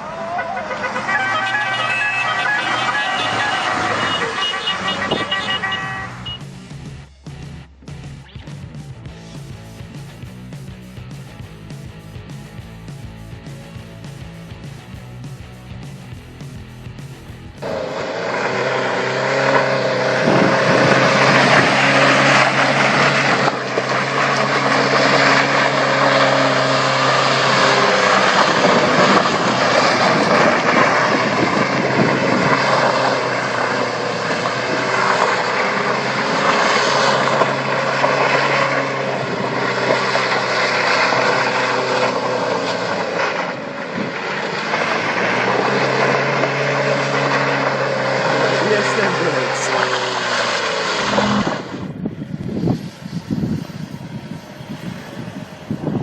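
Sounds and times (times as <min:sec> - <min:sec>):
heavy vehicle engine hum: 0:00.0 - 0:56.0
loud rushing noise: 0:00.0 - 0:56.0.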